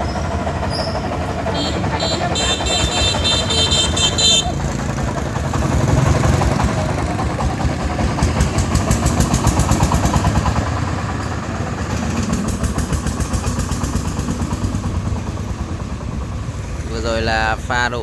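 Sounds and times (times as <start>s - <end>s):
diesel engine chugging: 0.0s - 18.0s.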